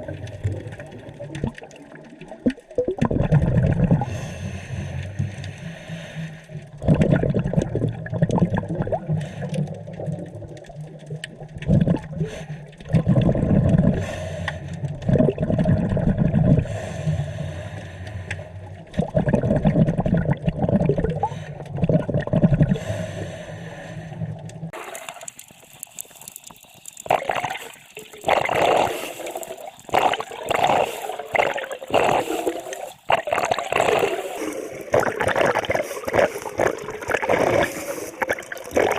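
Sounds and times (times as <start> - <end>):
underwater regulator bubbling: 0.0 - 4.3, 6.6 - 38.9.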